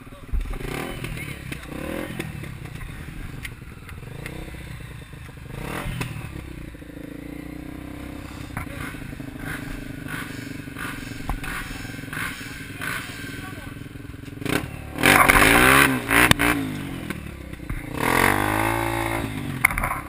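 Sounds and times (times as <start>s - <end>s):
dirt bike engine: 0.0s - 20.0s.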